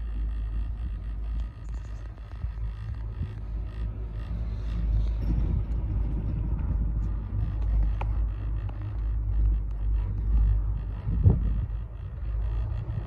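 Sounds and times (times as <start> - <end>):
chairlift rope rolling rumble: 0.0 - 13.0
wind on microphone: 0.0 - 13.0.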